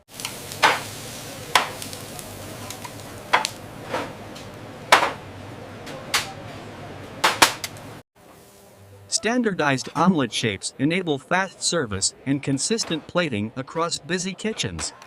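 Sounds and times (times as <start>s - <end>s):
steady hum and hiss: 0.1s - 12.3s.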